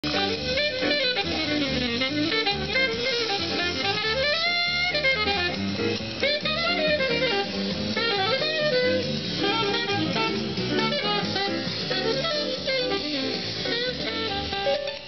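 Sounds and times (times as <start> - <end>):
jazz saxophone through radio speaker: 0.0 - 15.0.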